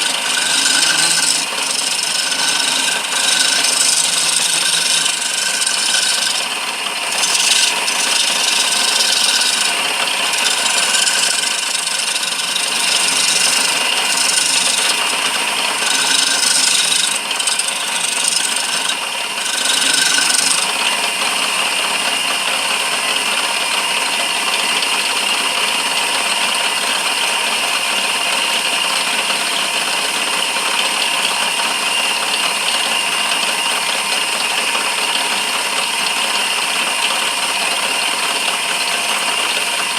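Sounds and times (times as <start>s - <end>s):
lathe running: 0.0s - 39.9s
tool scraping spinning wood: 0.0s - 39.9s.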